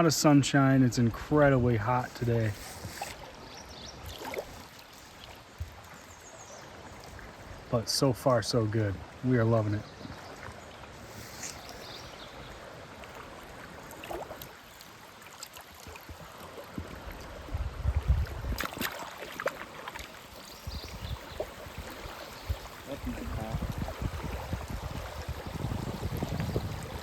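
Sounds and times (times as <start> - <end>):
river water lapping around boat: 0.0 - 27.0.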